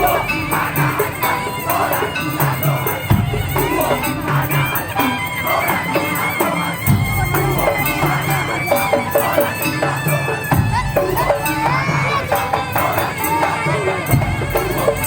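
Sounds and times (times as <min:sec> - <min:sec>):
bowed or reed melody: 0:00.0 - 0:15.0
repeating drum beat: 0:00.0 - 0:15.0.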